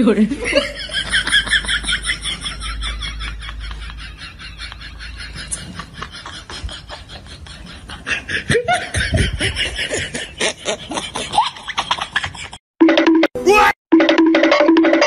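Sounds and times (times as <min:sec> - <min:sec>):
people snickering and laughing: 0:00.4 - 0:12.6.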